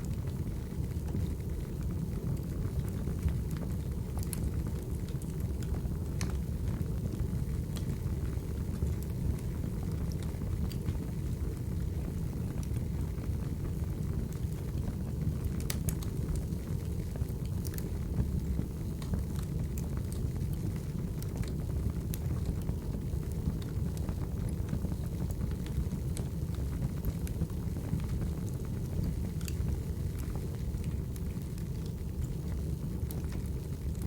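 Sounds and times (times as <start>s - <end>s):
low rumble of flames: 0.0s - 34.0s
wood fire crackling and popping: 0.0s - 34.0s.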